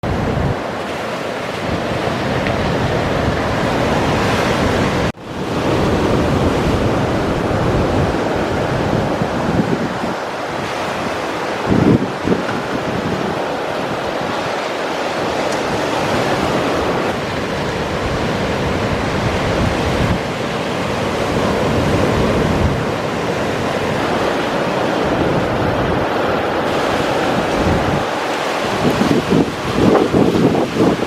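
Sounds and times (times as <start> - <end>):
sea waves washing on shore: 0.0 - 31.0
wind buffeting microphone: 0.0 - 31.0.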